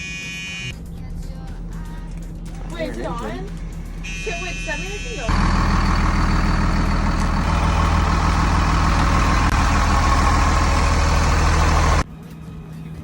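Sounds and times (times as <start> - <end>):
motorhome engine idling: 0.9 - 12.1.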